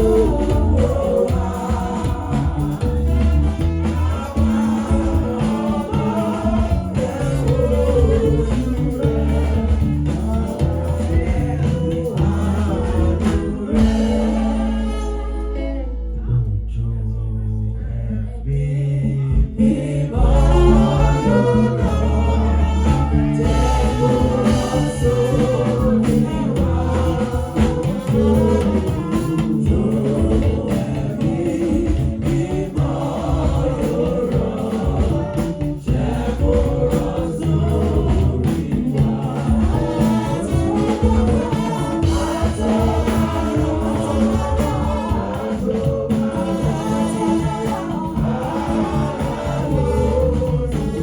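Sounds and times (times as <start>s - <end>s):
band with bass and percussion: 0.0s - 17.0s, 17.9s - 51.0s
group singing gospel song: 0.0s - 51.0s.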